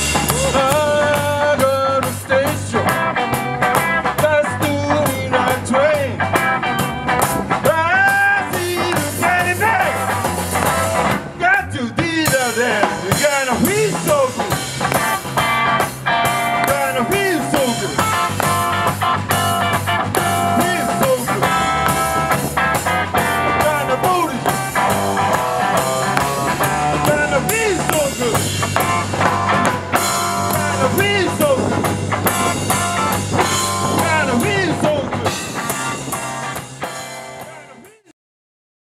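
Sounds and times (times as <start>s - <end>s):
drum kit: 0.0s - 11.4s, 12.0s - 38.1s
electric guitar bending notes: 0.0s - 11.5s, 12.1s - 37.8s.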